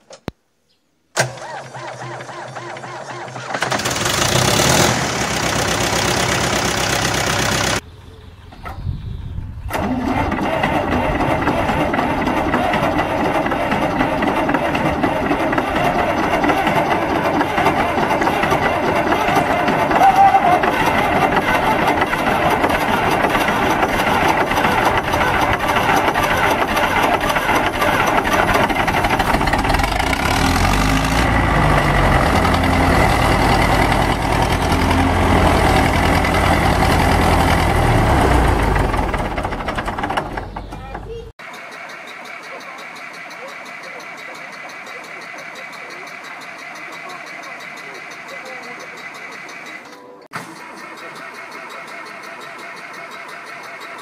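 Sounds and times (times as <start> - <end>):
diesel engine starting and idling: 1.2 - 54.0
tractor diesel engine running: 1.2 - 54.0.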